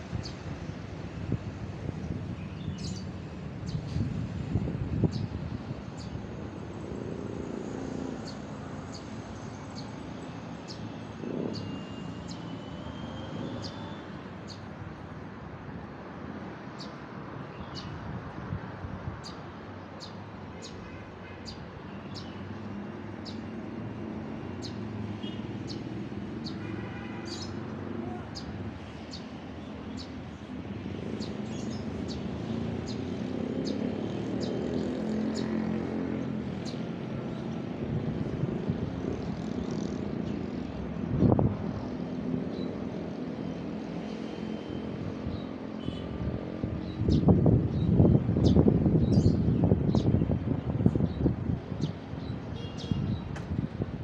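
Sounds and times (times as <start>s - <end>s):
traffic hum: 0.0s - 54.0s.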